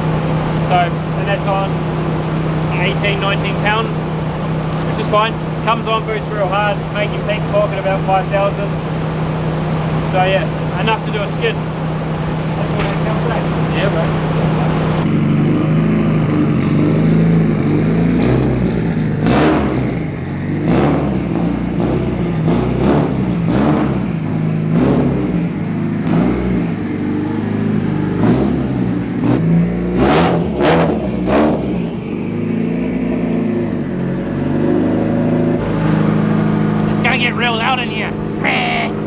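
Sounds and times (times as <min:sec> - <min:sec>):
sharp exhaust cracks: 0:00.0 - 0:34.0, 0:35.6 - 0:39.0
car engine revving: 0:00.0 - 0:39.0.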